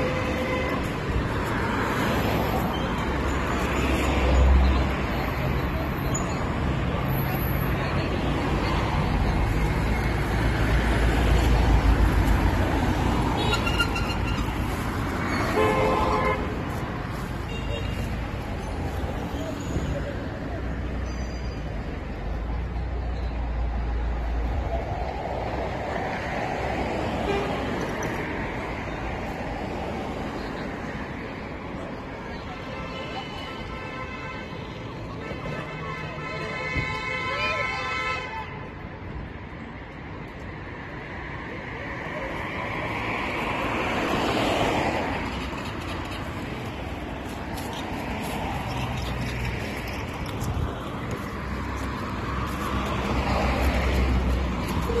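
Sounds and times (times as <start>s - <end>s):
road traffic hum: 0.0s - 55.0s.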